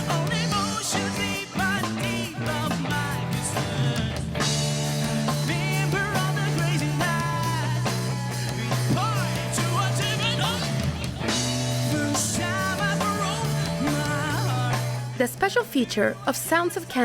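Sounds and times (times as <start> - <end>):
person singing: 0.0 - 4.4, 5.3 - 15.0
guitar: 0.0 - 17.0
steady bass line: 0.0 - 17.0.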